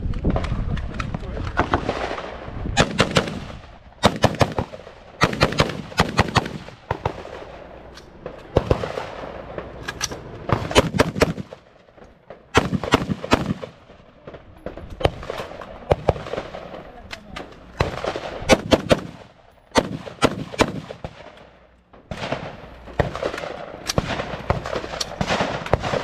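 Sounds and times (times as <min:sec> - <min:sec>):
rifle shots with echo: 0:01.4 - 0:26.0.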